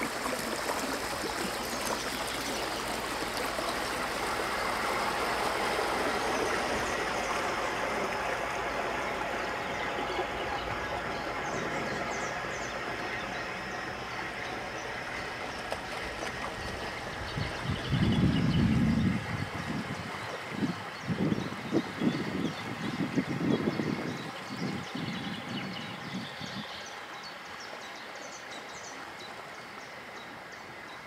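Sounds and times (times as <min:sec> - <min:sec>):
water lapping against bank: 0:00.0 - 0:31.0.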